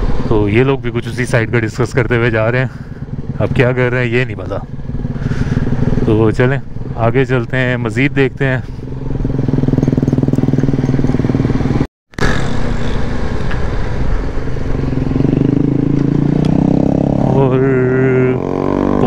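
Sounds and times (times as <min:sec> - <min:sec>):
wind rumble: 0:00.0 - 0:19.0
motorcycle engine running: 0:01.5 - 0:19.0.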